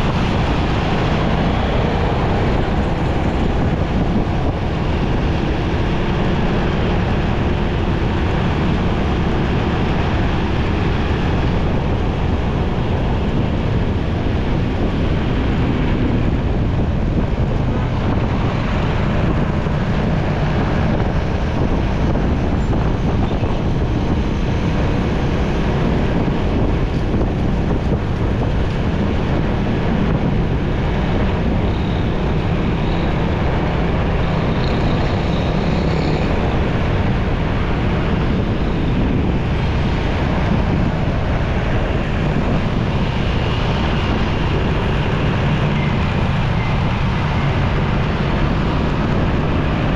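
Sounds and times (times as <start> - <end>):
motorcycle engine rumble: 0.0 - 49.9
road traffic: 0.0 - 49.9
wind rushing over microphone: 0.0 - 49.9.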